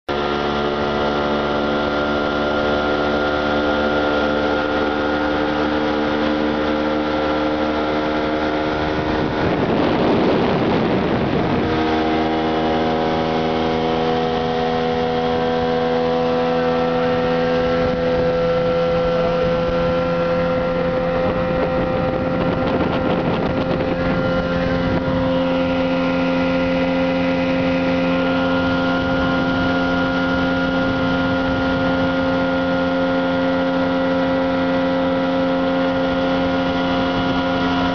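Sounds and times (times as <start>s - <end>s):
motorboat engine running: 0.1s - 37.9s
water rushing along hull: 0.1s - 37.9s.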